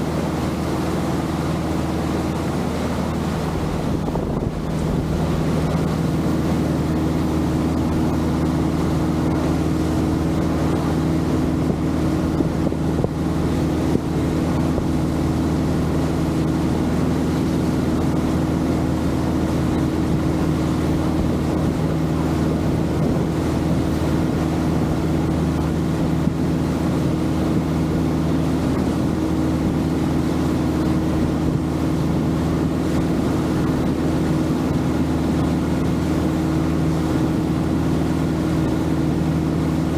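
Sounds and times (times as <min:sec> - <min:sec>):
boat engine droning: 0:00.0 - 0:39.9
water noise: 0:00.0 - 0:39.9
wind noise: 0:02.5 - 0:18.2, 0:19.6 - 0:39.9.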